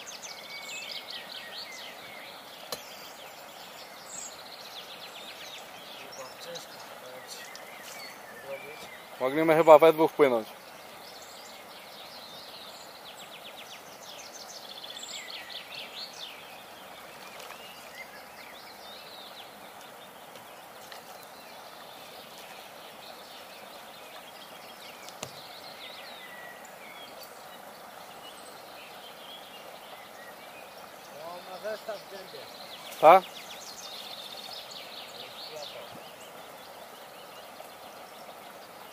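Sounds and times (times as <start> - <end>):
outdoor background hiss: 0.0 - 38.9
small birds singing: 0.0 - 38.9.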